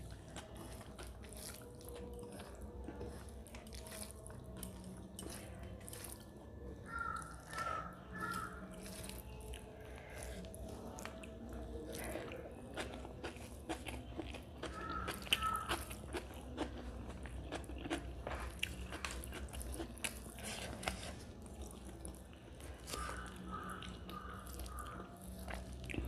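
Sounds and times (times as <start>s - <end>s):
chewing with wet mouth smacks: 0.0s - 26.0s.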